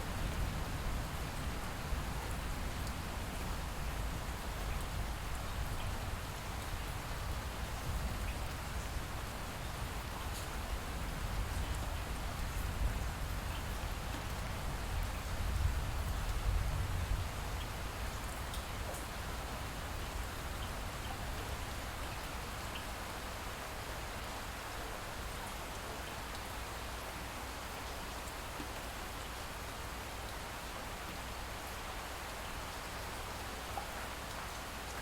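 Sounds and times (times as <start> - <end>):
light rain falling: 0.0 - 35.0.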